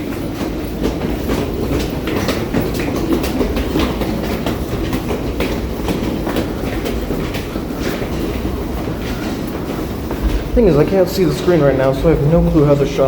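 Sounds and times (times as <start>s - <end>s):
rail wheels rumbling: 0.0s - 13.0s
wheels clacking over rail joints: 0.0s - 13.0s.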